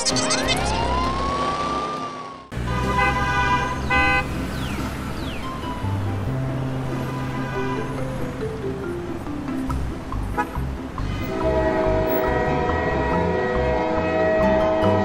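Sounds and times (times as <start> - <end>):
background music: 2.6 - 15.0.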